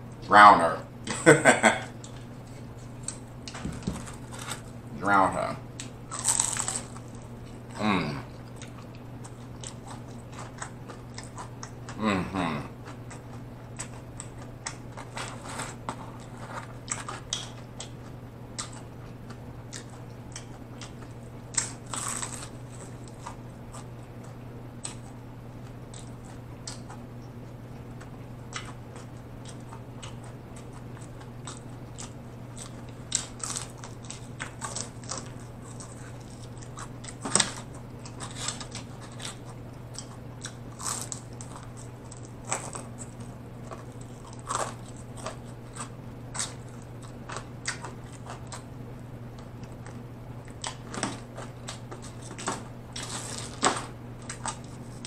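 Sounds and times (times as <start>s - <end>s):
steady low hum: 0.0s - 55.0s
chewing crispy fried chicken: 1.0s - 55.0s.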